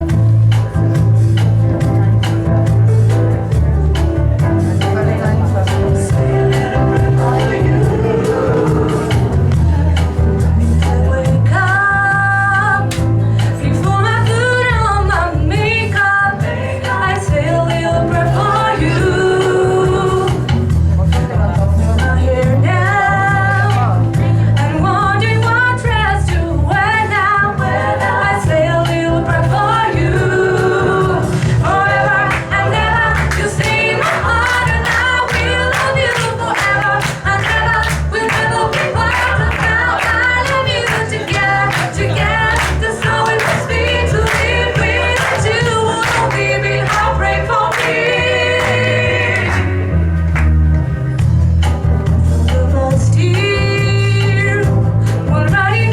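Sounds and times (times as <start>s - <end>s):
music with singing voices: 0.0s - 55.9s.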